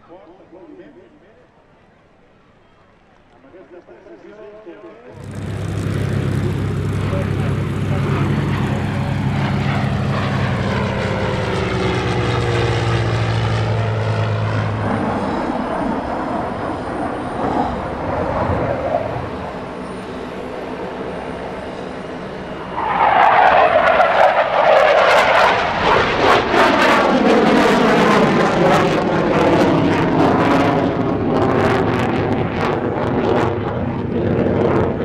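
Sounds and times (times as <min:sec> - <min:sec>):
fighter jet roar: 0:05.2 - 0:35.0
propeller aircraft engine drone: 0:05.2 - 0:35.0.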